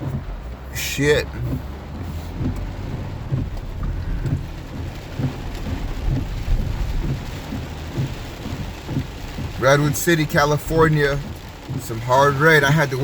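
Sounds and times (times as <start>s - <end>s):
heavy rain on truck roof: 0.0s - 13.0s
truck driving rumble: 0.0s - 13.0s.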